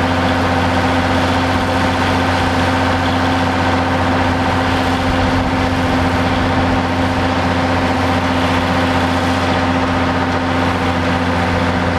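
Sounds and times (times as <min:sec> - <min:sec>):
heavy engine droning: 0:00.0 - 0:11.9.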